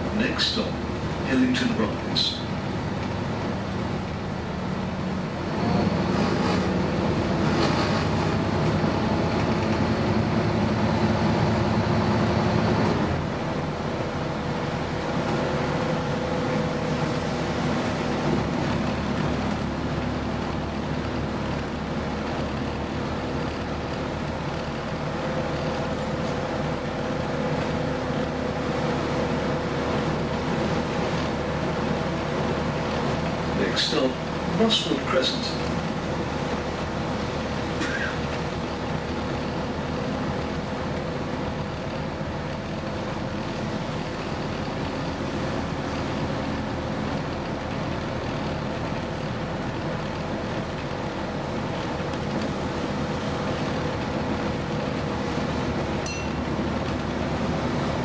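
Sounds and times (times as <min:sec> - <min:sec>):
bus diesel engine: 0:00.0 - 0:58.0
road noise: 0:00.0 - 0:58.0.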